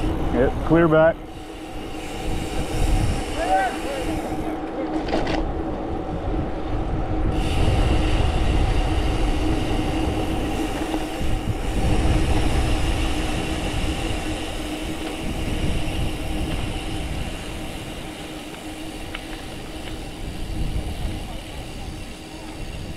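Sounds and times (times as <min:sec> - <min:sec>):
bike tyres rolling: 0:00.0 - 0:22.9
steady hum: 0:00.0 - 0:22.9
wind buffeting microphone: 0:00.0 - 0:22.9.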